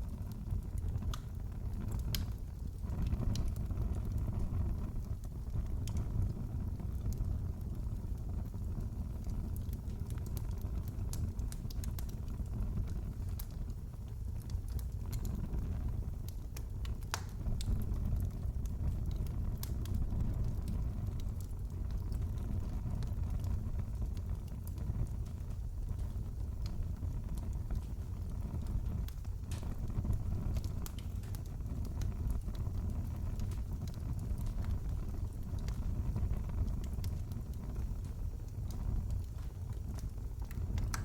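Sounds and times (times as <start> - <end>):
fire crackles and pops: 0.0 - 41.0
low rumble of flames: 0.0 - 41.0.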